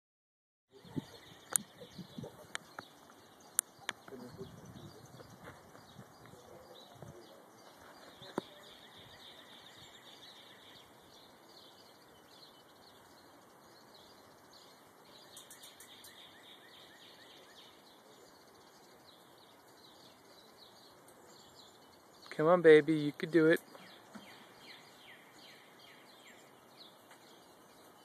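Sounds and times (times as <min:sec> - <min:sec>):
faint birdsong chirps: 0:00.7 - 0:28.0.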